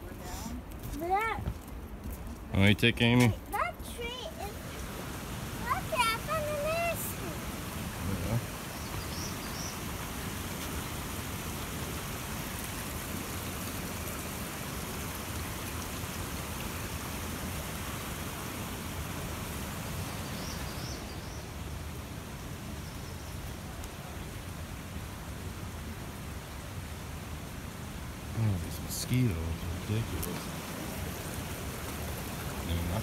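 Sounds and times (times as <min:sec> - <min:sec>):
stream running over rock: 0:00.0 - 0:33.0.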